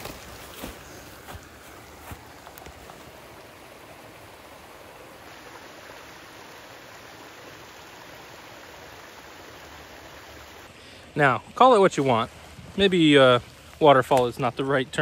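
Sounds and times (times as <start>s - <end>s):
water running over creek cascade: 0.0s - 15.0s.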